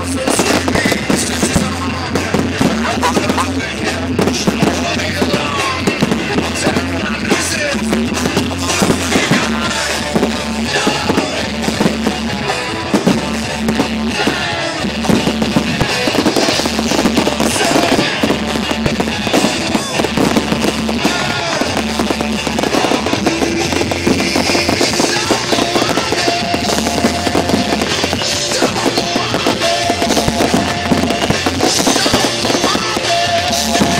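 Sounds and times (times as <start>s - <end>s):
fireworks bursts and crackles: 0.0s - 33.9s
loud music with thudding bass: 0.0s - 33.9s.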